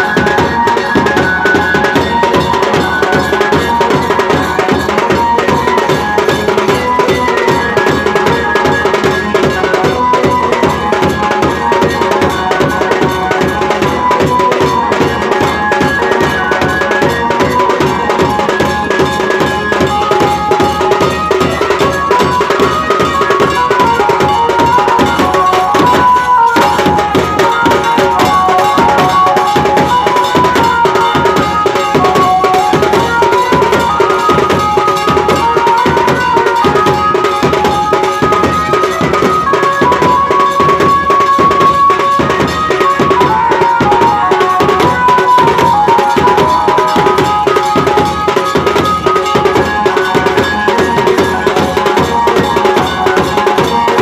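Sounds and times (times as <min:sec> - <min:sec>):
fast hand drum rhythm: 0:00.0 - 0:54.0
folk melody line: 0:00.0 - 0:54.0.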